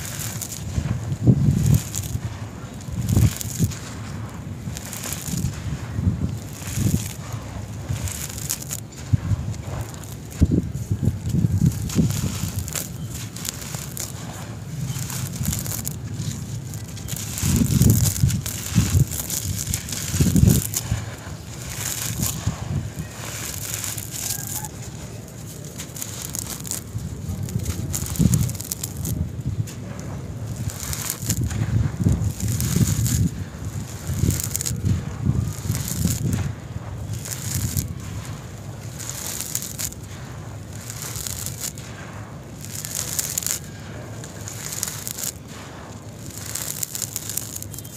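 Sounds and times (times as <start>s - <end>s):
dry dirt clumps crumbling: 0.0s - 47.9s.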